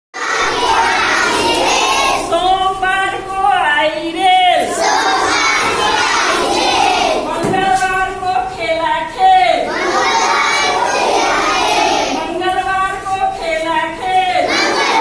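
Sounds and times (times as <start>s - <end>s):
children chanting a rhyme: 0.2s - 3.6s, 4.2s - 15.0s.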